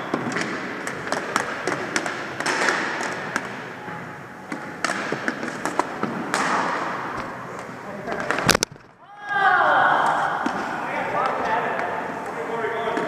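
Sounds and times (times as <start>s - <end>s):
hockey sticks clacking on floor: 0.0s - 3.7s, 4.5s - 8.9s, 10.0s - 13.0s.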